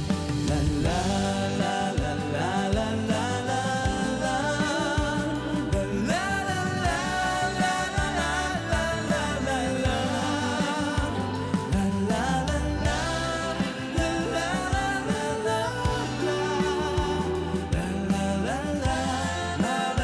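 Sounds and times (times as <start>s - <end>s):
band accompaniment with drums: 0.0s - 20.0s
men singing pop ballad: 0.0s - 20.0s.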